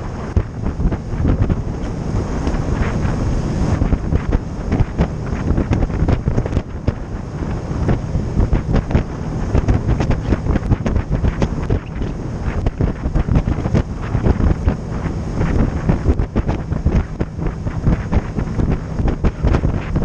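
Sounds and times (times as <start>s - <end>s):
boat running noise: 0.0s - 20.0s
water under a hull: 0.0s - 20.0s
wind buffeting microphone: 0.0s - 20.0s.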